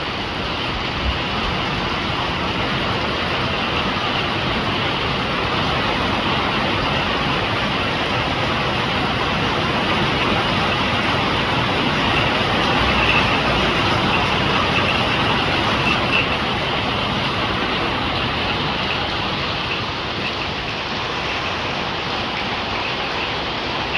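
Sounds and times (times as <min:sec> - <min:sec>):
rain falling: 0:00.0 - 0:23.9.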